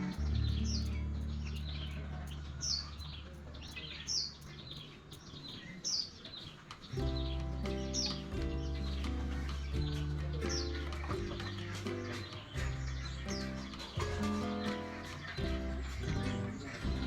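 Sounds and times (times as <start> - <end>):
background music with low notes: 0.0 - 4.3, 7.0 - 17.0
small birds chirping: 0.0 - 17.0.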